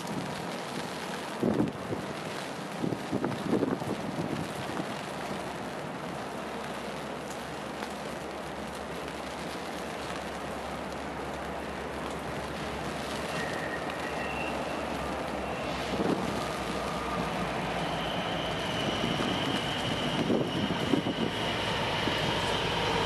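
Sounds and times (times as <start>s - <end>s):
light rain hissing: 0.0s - 23.0s
wind: 0.0s - 23.0s
distant freight train rumble: 3.2s - 23.0s.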